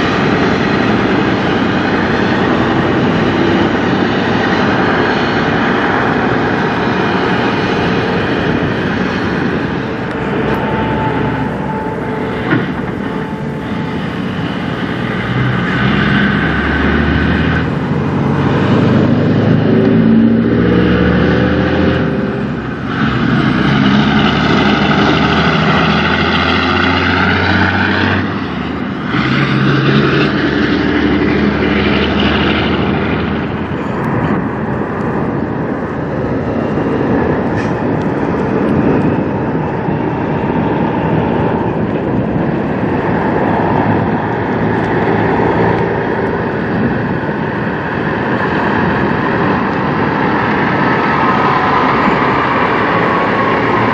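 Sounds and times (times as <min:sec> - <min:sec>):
diesel truck engine accelerating: 0:00.0 - 0:53.9.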